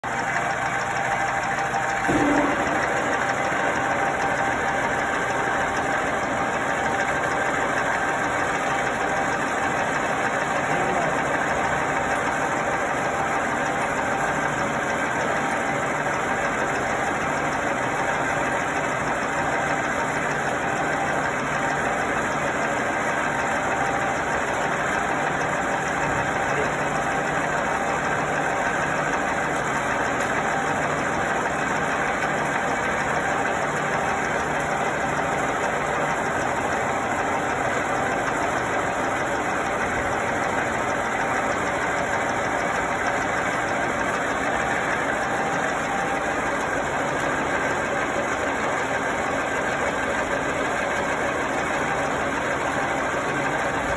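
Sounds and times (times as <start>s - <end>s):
milling machine humming: 0.0s - 53.9s.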